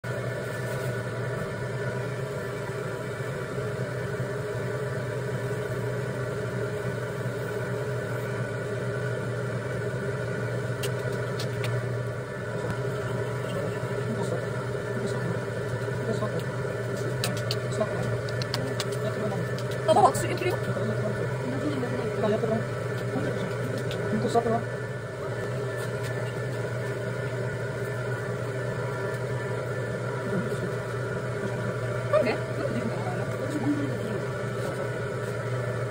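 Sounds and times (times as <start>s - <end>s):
potter's wheel motor humming: 0.0s - 35.9s.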